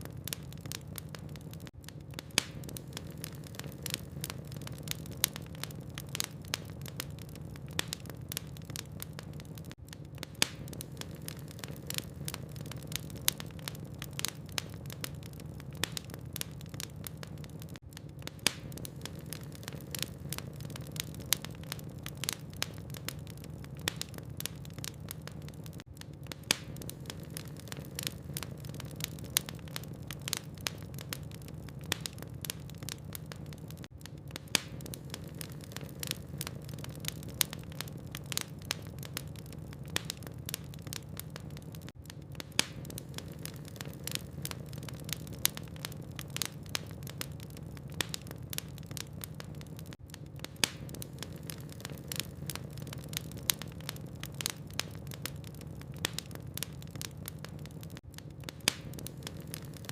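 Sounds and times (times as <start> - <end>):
logs crackling and popping: 0.0 - 59.9.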